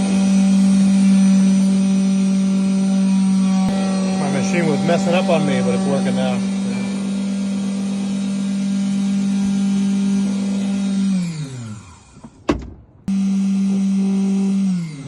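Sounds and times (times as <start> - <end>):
machine motor humming: 0.0 - 12.3.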